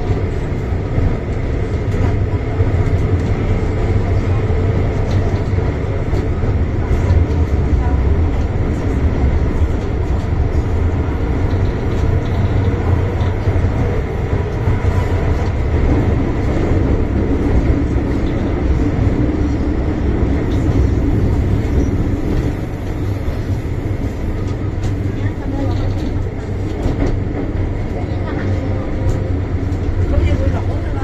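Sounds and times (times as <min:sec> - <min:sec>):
train low rumble: 0:00.0 - 0:31.0.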